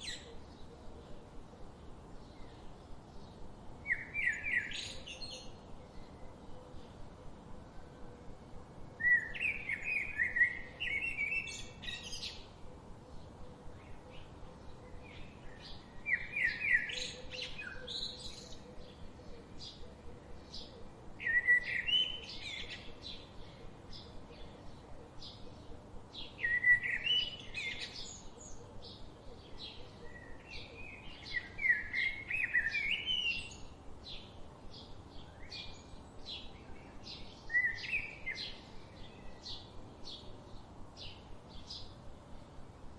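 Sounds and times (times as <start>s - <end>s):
faint bird chirps: 0.0s - 8.4s, 9.0s - 42.0s.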